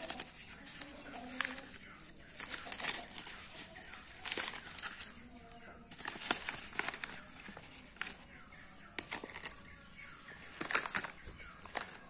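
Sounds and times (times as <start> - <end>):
paper wrapping crinkling: 0.0 - 12.0.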